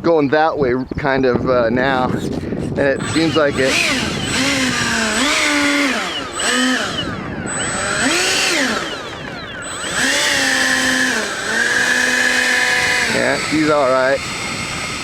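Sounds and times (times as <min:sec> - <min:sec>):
electric ducted-fan motors whining: 0:02.8 - 0:15.0.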